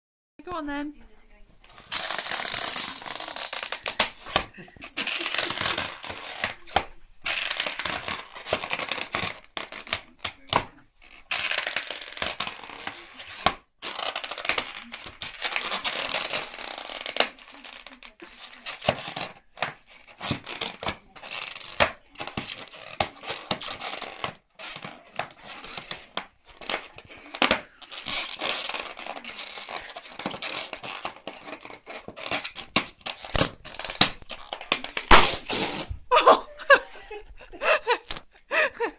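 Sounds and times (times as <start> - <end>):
balloon sharp cracks: 1.6 - 36.1
rubber squeaking and creaking: 1.6 - 36.4
dog chewing rubber balloon: 1.7 - 36.1.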